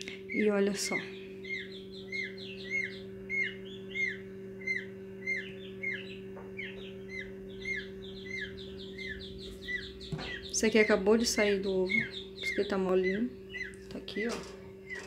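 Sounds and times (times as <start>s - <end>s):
incubator low hum: 0.0s - 15.0s
chicks peeping: 0.2s - 15.0s.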